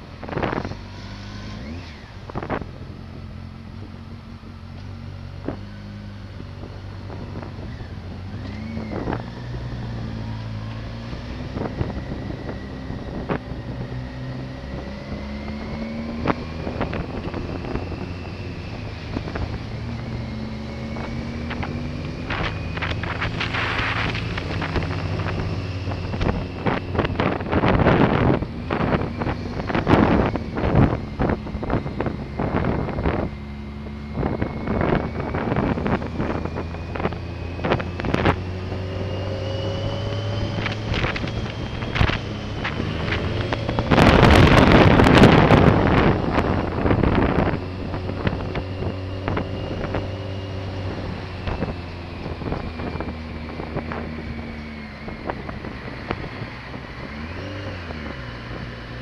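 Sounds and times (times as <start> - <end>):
motorcycle engine running: 0.0 - 59.0
wind buffeting microphone: 6.4 - 59.0.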